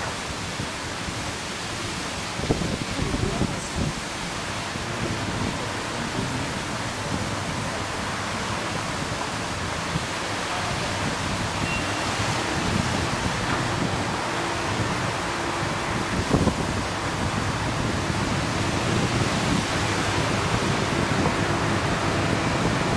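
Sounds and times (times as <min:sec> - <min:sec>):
high-pressure water jet hissing: 0:00.0 - 0:22.9
water spraying onto street: 0:00.0 - 0:22.9.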